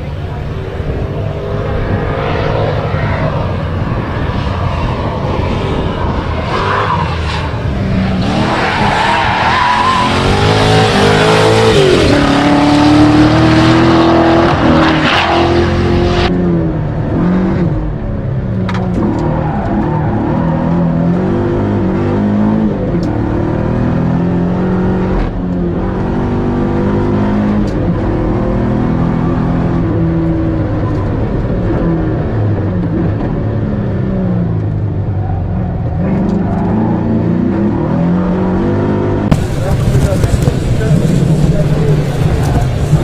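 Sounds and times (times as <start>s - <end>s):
v eight engine revving: 0.0s - 43.0s.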